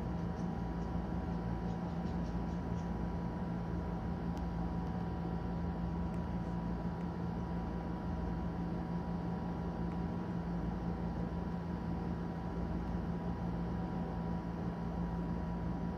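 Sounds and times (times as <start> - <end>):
mechanical hum: 0.0 - 15.9.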